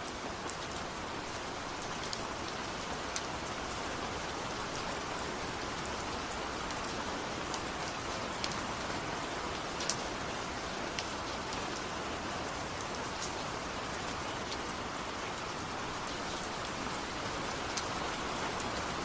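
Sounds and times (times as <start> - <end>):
raindrops dripping on a surface: 0.0 - 19.0
steady rainfall hissing: 0.0 - 19.0.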